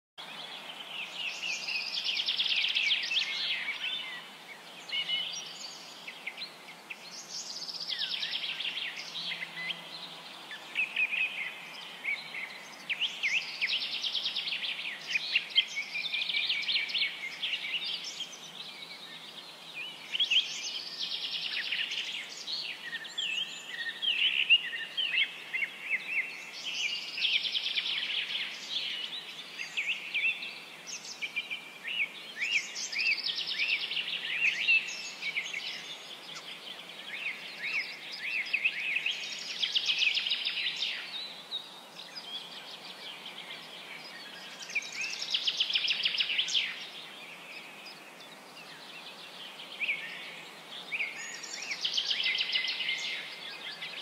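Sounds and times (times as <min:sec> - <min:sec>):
faint background hiss: 0:00.2 - 0:54.0
songbirds chirping and singing: 0:00.2 - 0:54.0.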